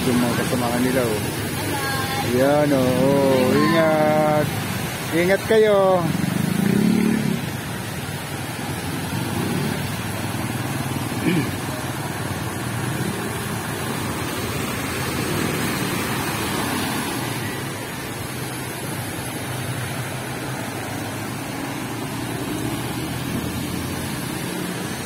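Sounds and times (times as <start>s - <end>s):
motorcycle engines: 0.0s - 25.0s
water splashing from wheels: 0.0s - 25.0s.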